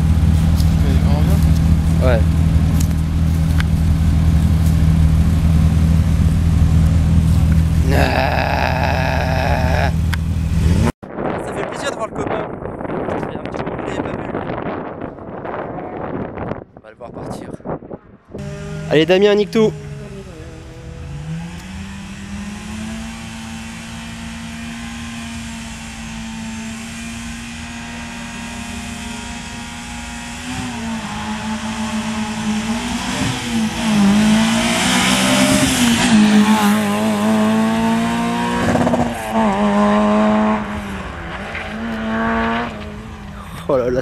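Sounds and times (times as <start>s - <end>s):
rally car engine revving: 0.0s - 10.9s, 18.4s - 43.6s.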